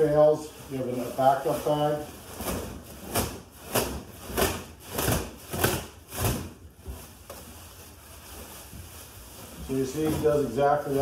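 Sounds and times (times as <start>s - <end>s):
plastic trash bag rustling: 0.0s - 11.0s.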